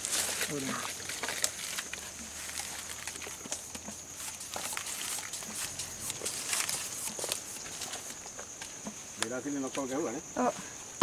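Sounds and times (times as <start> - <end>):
insect drone: 0.0 - 11.0
rustles: 0.0 - 11.0.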